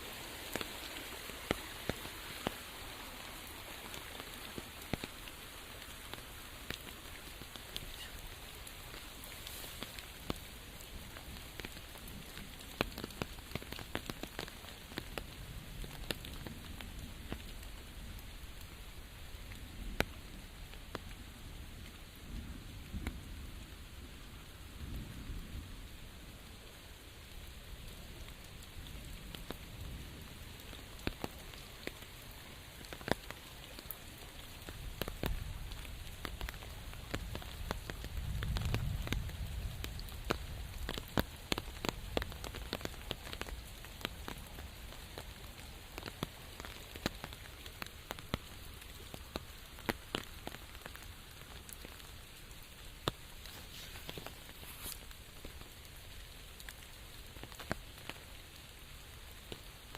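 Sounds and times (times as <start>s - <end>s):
rain drops striking a surface: 0.0s - 59.9s.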